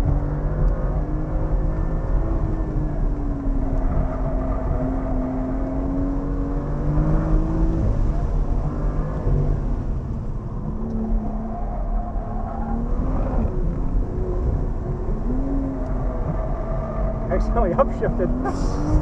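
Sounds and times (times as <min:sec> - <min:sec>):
car engine revving: 0:00.0 - 0:19.0
road and tyre noise: 0:00.0 - 0:19.0.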